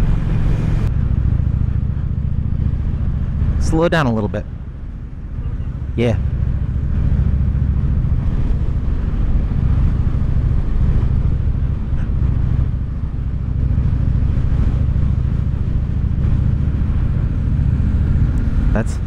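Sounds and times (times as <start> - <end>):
motorcycle engine running: 0.0 - 19.0
wind rush over microphone: 0.0 - 19.0.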